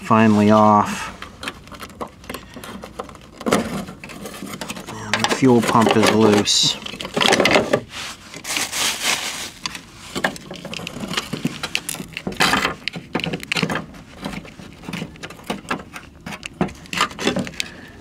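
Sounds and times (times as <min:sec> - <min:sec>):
metal clicks and knocks: 0:01.2 - 0:07.8, 0:09.6 - 0:17.7.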